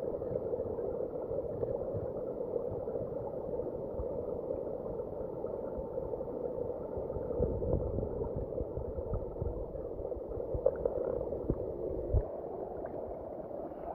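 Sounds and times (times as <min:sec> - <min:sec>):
muffled underwater water rush: 0:00.0 - 0:13.9.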